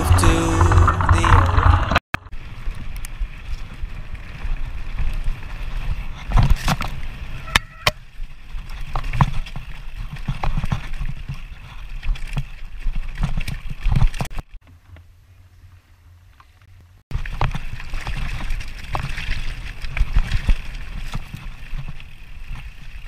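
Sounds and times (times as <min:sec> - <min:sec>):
mountain bike rattling: 0:00.0 - 0:23.0.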